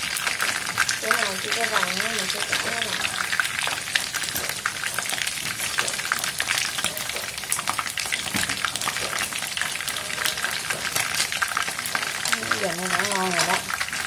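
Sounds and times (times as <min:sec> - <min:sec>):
chicken frying in hot oil: 0:00.0 - 0:14.0.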